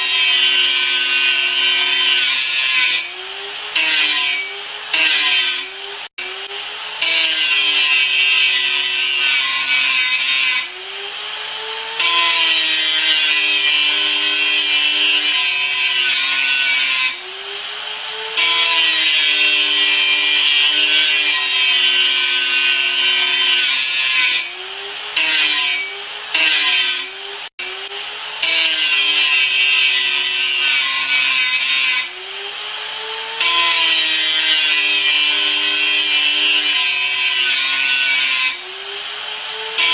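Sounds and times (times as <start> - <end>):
electric grinder grinding: 0.0 - 39.9.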